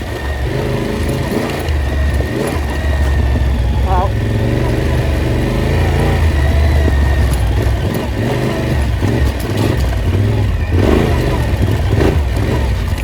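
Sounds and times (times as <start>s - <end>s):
heavy low rumble: 0.0s - 13.0s
off-road vehicle engine revving: 0.0s - 13.0s.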